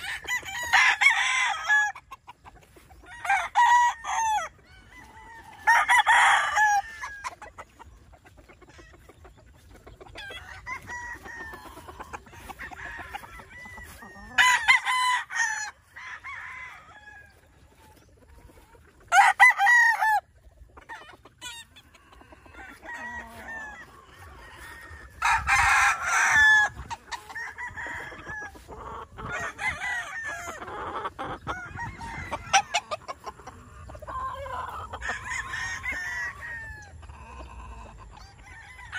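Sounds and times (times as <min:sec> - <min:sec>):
roosters crowing: 0:00.0 - 0:09.0, 0:09.6 - 0:38.9.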